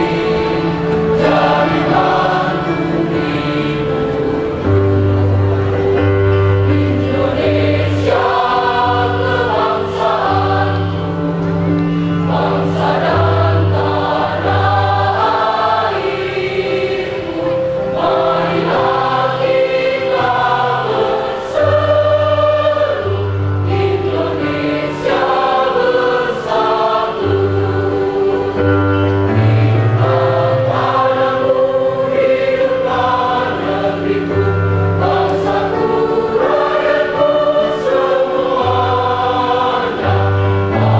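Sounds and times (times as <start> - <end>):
choir of women singing: 0.0 - 40.9.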